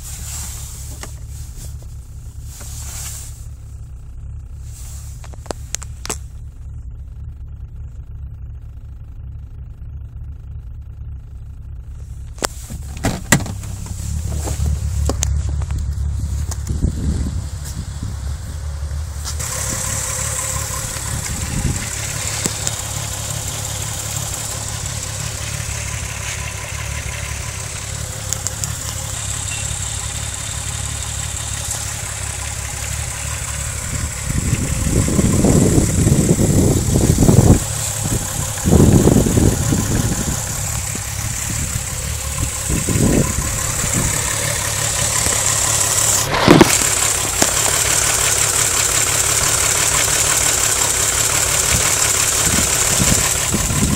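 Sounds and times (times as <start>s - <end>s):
car engine idling rough: 0.0s - 53.9s.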